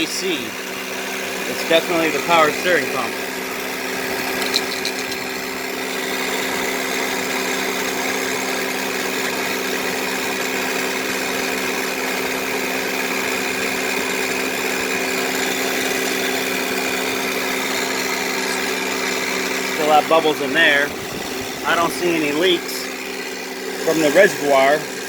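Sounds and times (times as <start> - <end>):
power steering pump humming: 0.0 - 25.0.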